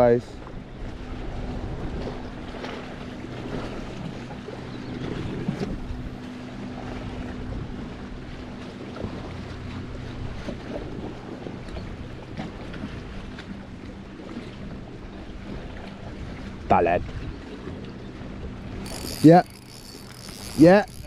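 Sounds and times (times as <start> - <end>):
water lapping around kayak: 0.0 - 21.0.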